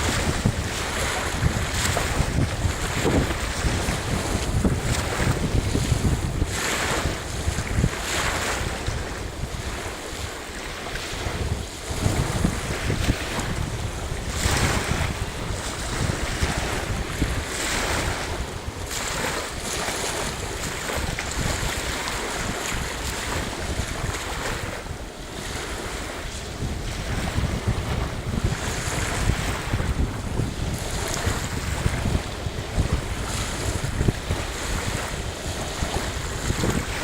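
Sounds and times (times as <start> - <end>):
waves breaking ashore: 0.0 - 37.0
wind buffeting microphone: 0.0 - 37.0.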